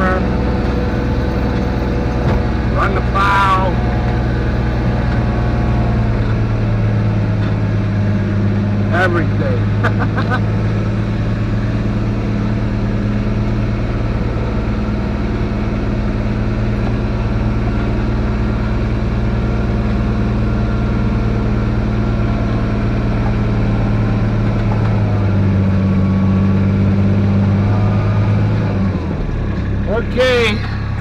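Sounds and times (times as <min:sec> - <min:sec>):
diesel engine under load: 0:00.0 - 0:31.0.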